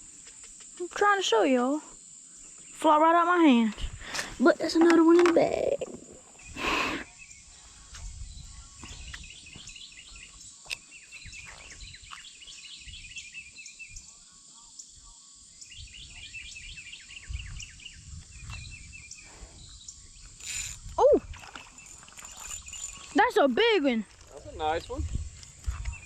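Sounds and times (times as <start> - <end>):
bird chirping: 4.5 - 26.0.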